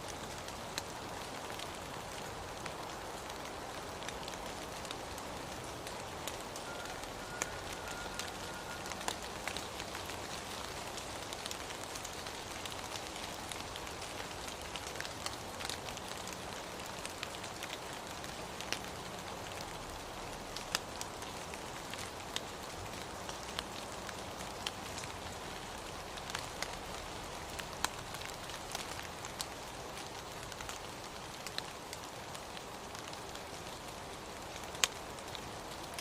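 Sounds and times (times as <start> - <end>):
raindrops tapping surfaces: 0.0 - 36.0
steady rain hiss: 0.0 - 36.0.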